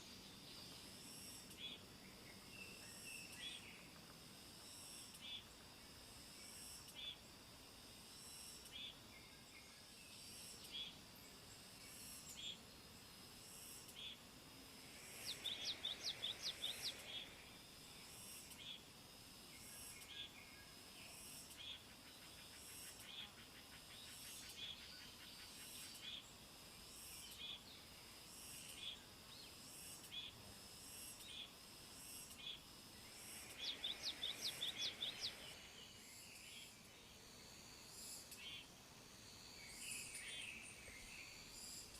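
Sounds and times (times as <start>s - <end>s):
high insect drone: 0.0s - 41.9s.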